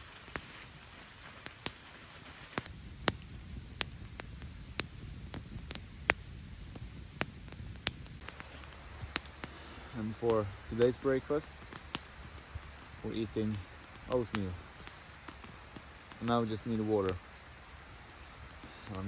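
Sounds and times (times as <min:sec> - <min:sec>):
burning wood popping: 0:00.0 - 0:19.0
campfire crackling: 0:00.0 - 0:19.0
low steady hiss: 0:00.0 - 0:19.0.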